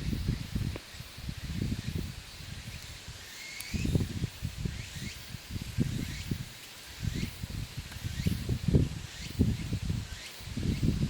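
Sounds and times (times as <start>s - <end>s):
rustling of dry leaves: 0.0s - 11.0s.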